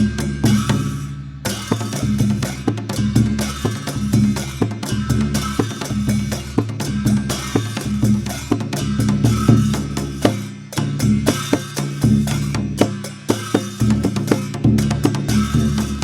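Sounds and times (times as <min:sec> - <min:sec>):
drum played fast: 0:00.0 - 0:16.0.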